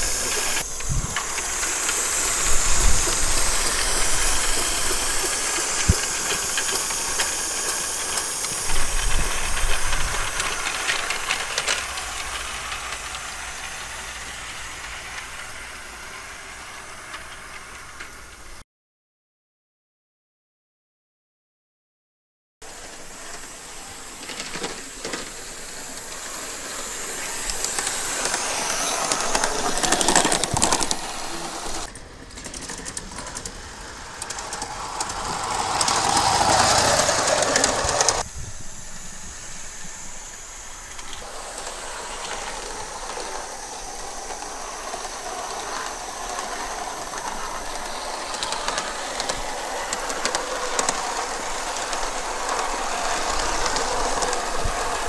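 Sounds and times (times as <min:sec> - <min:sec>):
model steam locomotive running: 0:00.0 - 0:18.6, 0:22.6 - 0:55.0
steam hissing: 0:00.0 - 0:18.6, 0:22.6 - 0:55.0.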